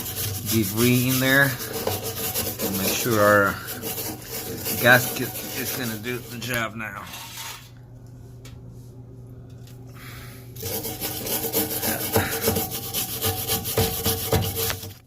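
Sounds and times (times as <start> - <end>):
wire brush scrubbing metal: 0.0 - 7.6, 10.6 - 15.0.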